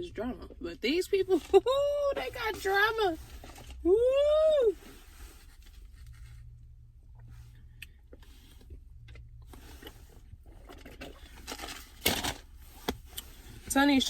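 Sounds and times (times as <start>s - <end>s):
low car cabin hum: 0.0s - 14.0s.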